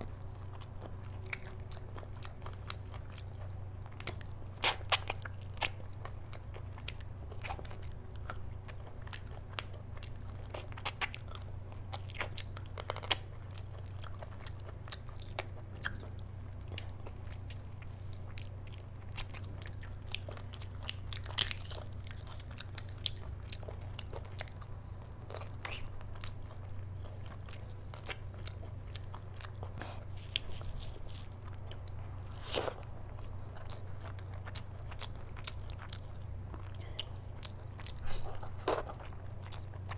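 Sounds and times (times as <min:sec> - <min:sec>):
close-up chewing: 0:00.0 - 0:39.9
steady low hum: 0:00.0 - 0:39.9.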